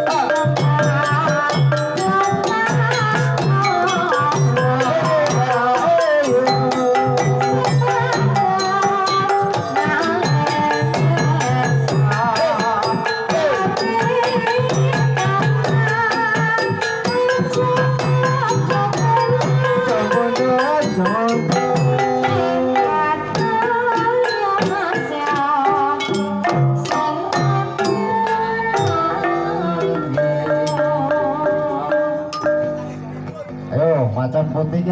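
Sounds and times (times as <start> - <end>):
woman singing with vibrato: 0.0 - 32.9
gamelan metallophones and gongs: 0.0 - 33.5.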